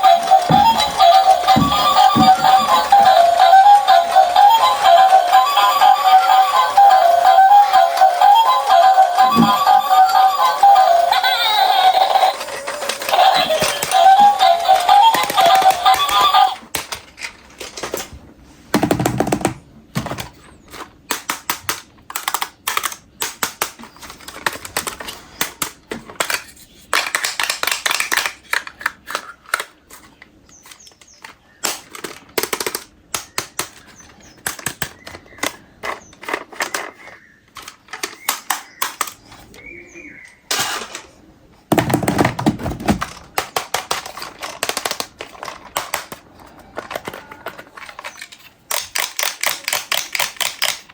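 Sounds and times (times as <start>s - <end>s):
plastic toys being handled: 0.0s - 39.7s, 40.5s - 50.9s.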